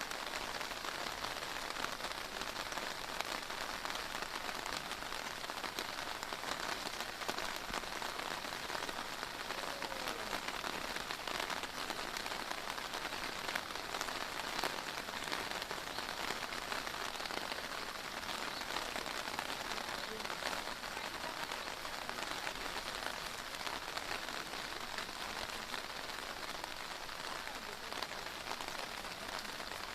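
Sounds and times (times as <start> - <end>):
heavy pouring rain: 0.0 - 29.9.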